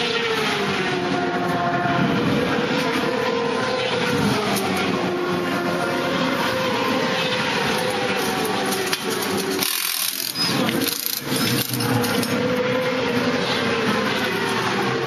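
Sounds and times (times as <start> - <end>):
racing motorcycle engines running: 0.0 - 15.0.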